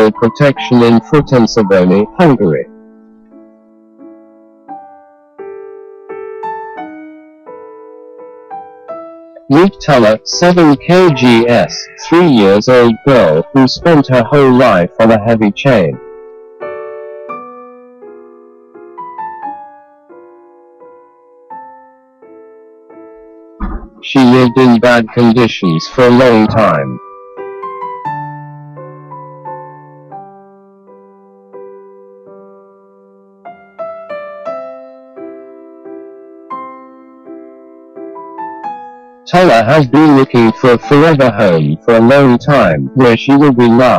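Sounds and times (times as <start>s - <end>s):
slow piano music: 0.0s - 43.9s.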